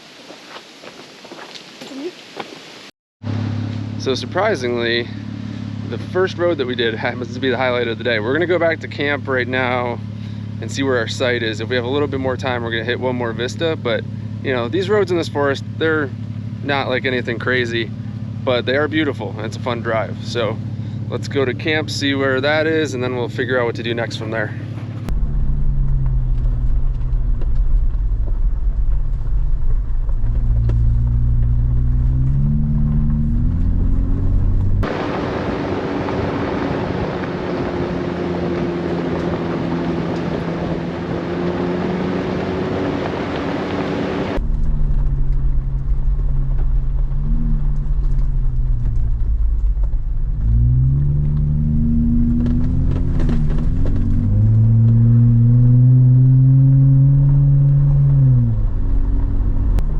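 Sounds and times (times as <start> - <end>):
road and tyre noise: 0.0 - 59.9
car engine accelerating: 3.2 - 59.9.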